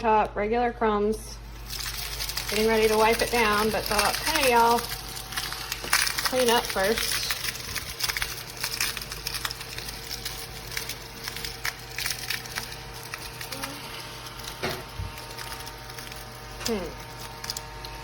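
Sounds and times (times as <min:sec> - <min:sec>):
vacuum motor hum: 0:00.9 - 0:18.0
crumbs rattling: 0:01.5 - 0:18.0.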